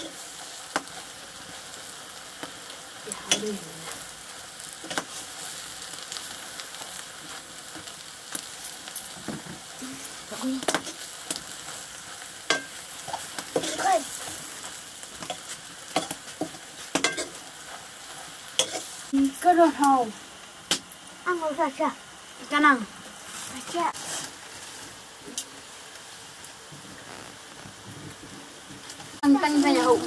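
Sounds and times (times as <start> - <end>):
vegetables sizzling in a wok: 0.0 - 30.0.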